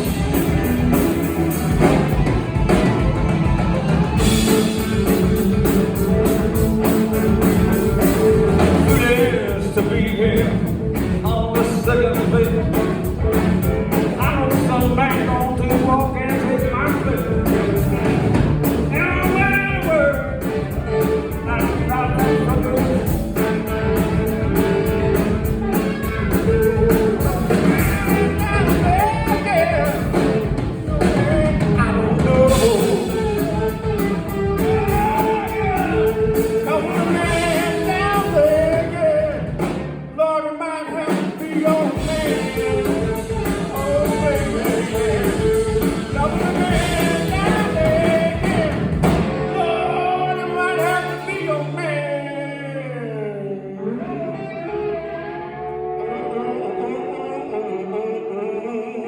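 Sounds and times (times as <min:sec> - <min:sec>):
electric guitar: 0:00.0 - 0:40.2, 0:40.9 - 0:58.7
live blues-rock band: 0:00.0 - 0:58.3
person singing: 0:00.0 - 0:59.0.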